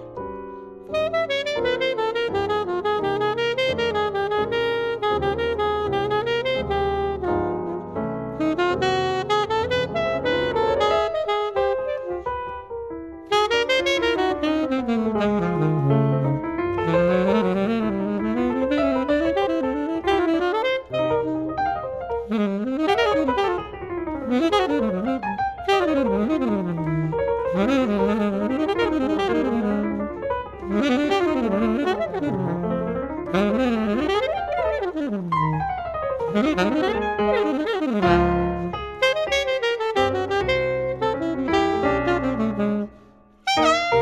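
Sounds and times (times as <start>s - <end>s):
alto saxophone playing jazz: 0.0s - 44.0s
piano playing jazz: 0.0s - 44.0s.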